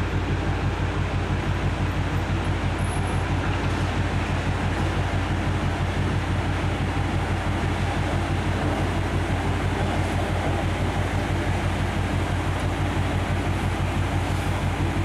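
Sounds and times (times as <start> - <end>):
heavy machinery humming: 0.0 - 15.0.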